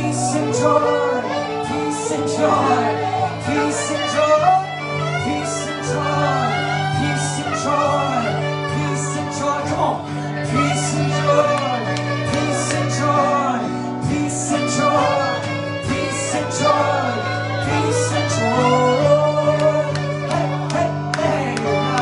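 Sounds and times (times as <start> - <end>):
person singing: 0.0 - 22.0
sustained chords: 0.0 - 22.0.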